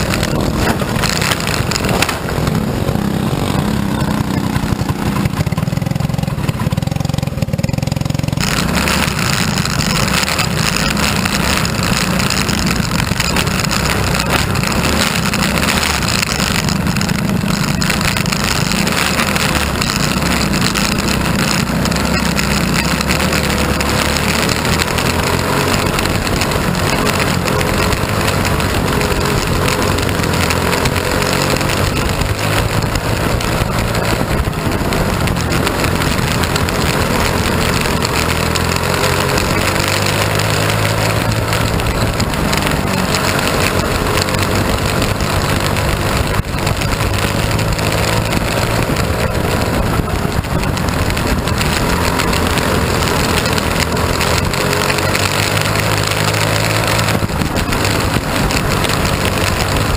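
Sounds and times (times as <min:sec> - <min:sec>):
wind rush over open cockpit: 0:00.0 - 0:22.8, 0:23.5 - 0:59.9
race car engine running hard: 0:00.0 - 0:59.9.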